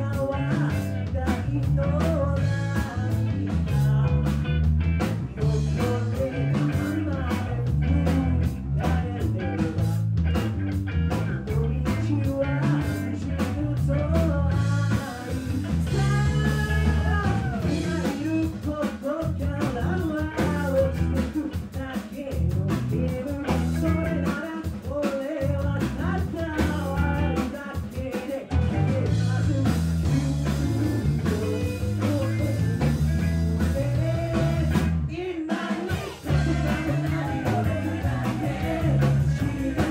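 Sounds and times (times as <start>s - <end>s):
man singing into microphone: 0.0s - 4.4s, 5.3s - 10.1s, 11.4s - 33.0s, 33.6s - 39.9s
live rock band playing: 0.0s - 39.9s.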